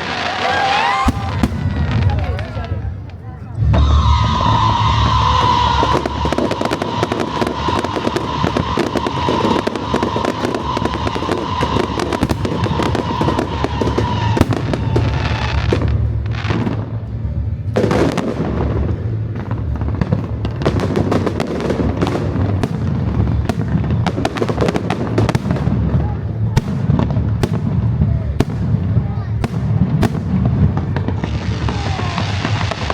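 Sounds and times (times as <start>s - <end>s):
fireworks booming: 0.0s - 32.9s
fireworks crackling: 0.0s - 32.9s.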